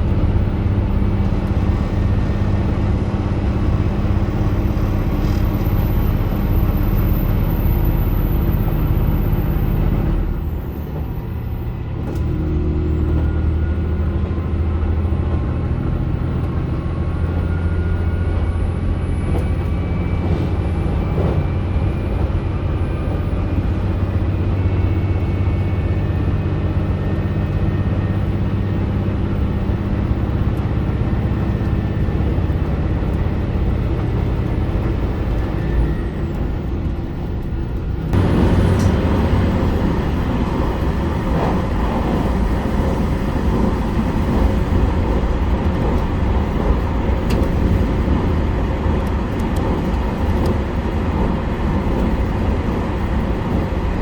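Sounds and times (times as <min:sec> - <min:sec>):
railcar engine drone: 0:00.0 - 0:54.0
train rushing noise: 0:00.0 - 0:54.0.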